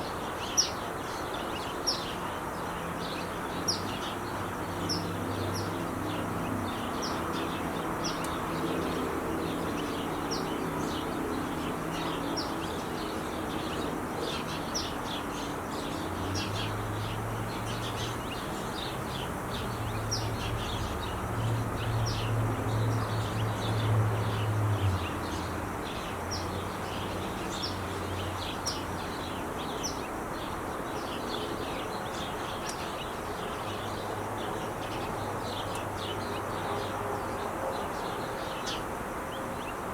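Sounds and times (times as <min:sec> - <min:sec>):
small birds chirping: 0:00.0 - 0:37.0
freeway traffic noise: 0:00.0 - 0:39.9.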